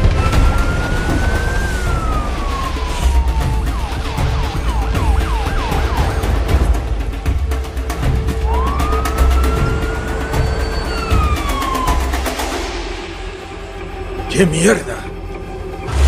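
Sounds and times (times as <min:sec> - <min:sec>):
ambulance siren: 0:00.0 - 0:14.8.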